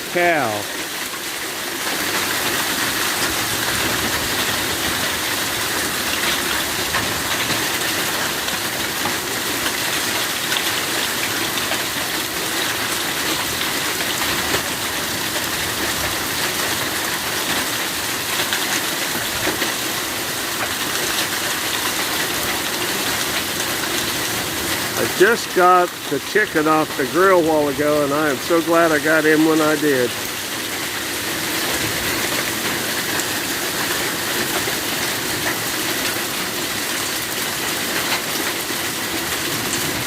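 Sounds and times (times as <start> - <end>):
hailstones pelting down: 0.3 - 40.0.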